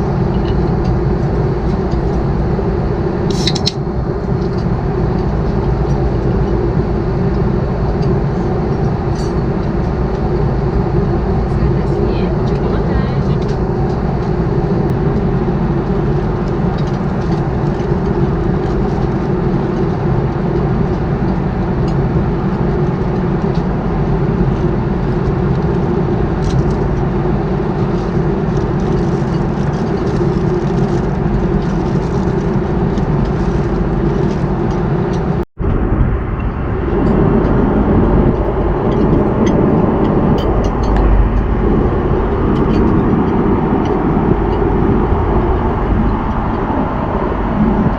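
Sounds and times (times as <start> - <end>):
aircraft cabin engine roar: 0.0 - 47.9.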